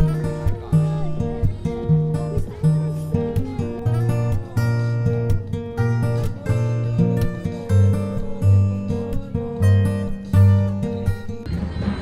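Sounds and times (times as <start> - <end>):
strummed acoustic guitar music: 0.0 - 12.0.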